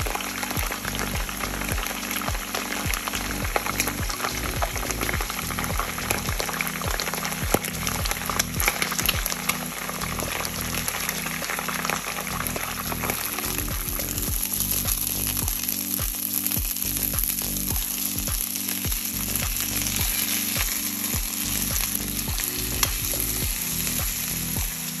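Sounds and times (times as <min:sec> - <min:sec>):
background music with low beat: 0:00.0 - 0:25.0
food sizzling in hot oil: 0:00.0 - 0:25.0.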